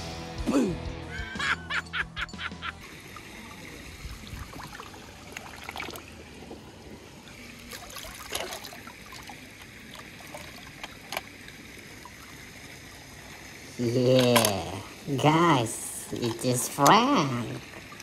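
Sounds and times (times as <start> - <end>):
pool water sloshing: 2.8 - 18.0.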